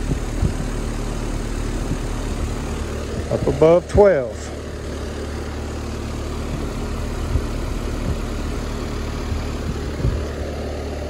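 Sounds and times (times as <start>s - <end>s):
compressor low hum: 0.0s - 11.0s
fan blowing air: 0.0s - 11.0s.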